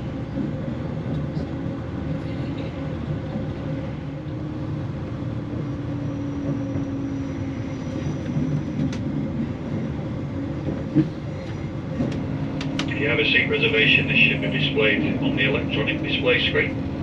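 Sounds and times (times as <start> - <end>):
diesel engine hum: 0.0 - 17.0
train cabin rumble: 0.0 - 17.0.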